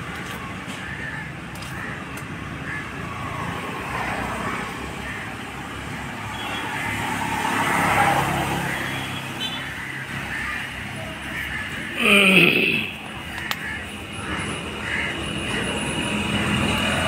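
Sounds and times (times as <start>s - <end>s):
vehicle passing: 3.0s - 17.0s.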